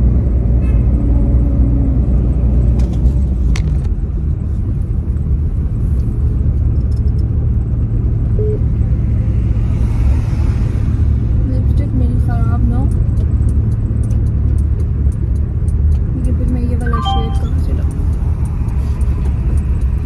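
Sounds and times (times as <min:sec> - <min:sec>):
car cabin road and engine rumble: 0:00.0 - 0:20.0.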